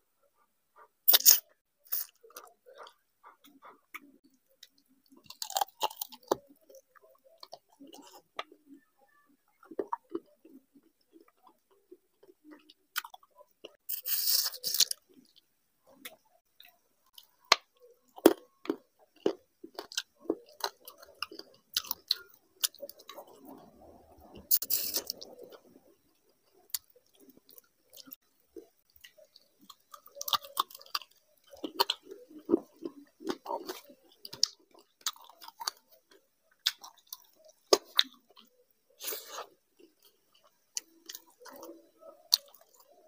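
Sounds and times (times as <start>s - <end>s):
person chewing: 0.8s - 8.8s, 9.5s - 43.0s.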